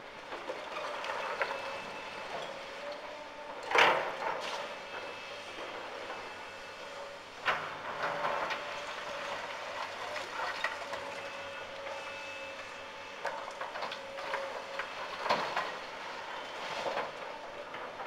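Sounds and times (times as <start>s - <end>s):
excavator machine humming: 0.0s - 18.0s.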